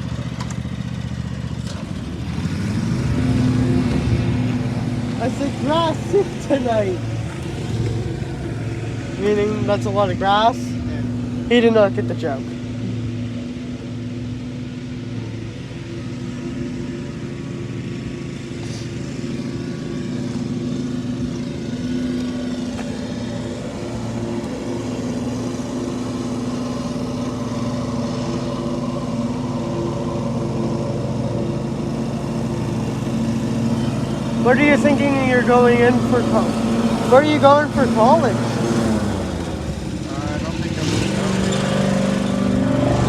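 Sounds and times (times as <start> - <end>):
lawn mower engine humming: 0.0 - 43.0.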